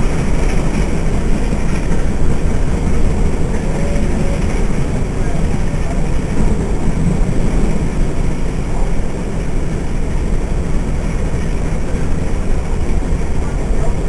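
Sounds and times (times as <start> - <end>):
train carriage rumbling: 0.0 - 14.0.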